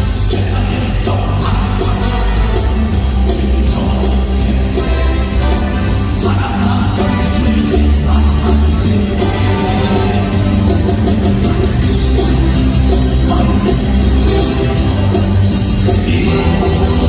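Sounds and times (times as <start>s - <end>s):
drums: 0.0s - 17.0s
guitar: 0.0s - 17.0s
person singing: 0.0s - 17.0s
rock worship band playing: 0.0s - 17.0s.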